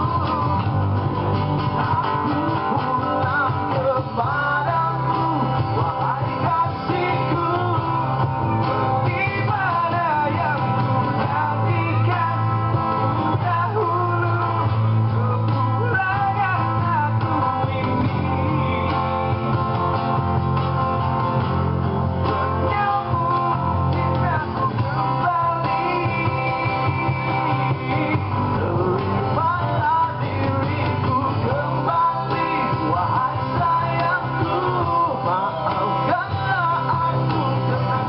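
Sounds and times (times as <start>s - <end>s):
man singing: 0.0s - 20.6s, 21.8s - 38.0s
acoustic and electric guitars: 0.0s - 38.0s.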